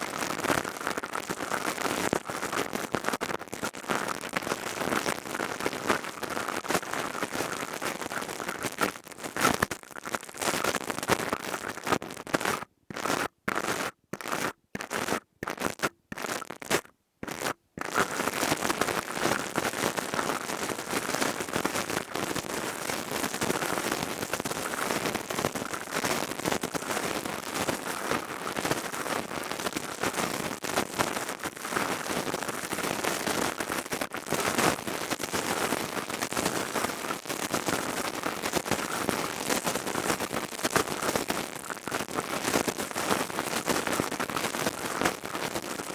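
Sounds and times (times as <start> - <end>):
crackling and scratching on microphone: 0.0 - 45.9.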